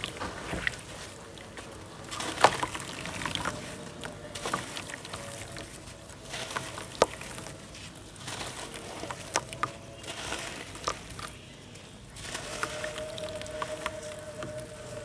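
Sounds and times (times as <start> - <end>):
grit pattering into water: 0.0 - 11.5, 12.1 - 15.0
gritty crumbling by hand: 0.0 - 15.0.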